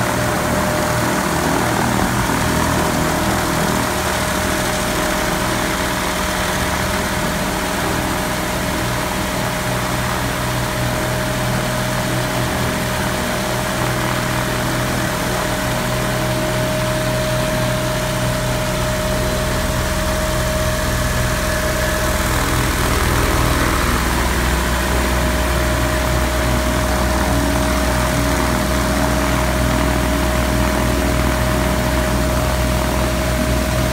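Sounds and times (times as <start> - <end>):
aircraft engine idling: 0.0 - 33.9
engine whine: 0.0 - 33.9.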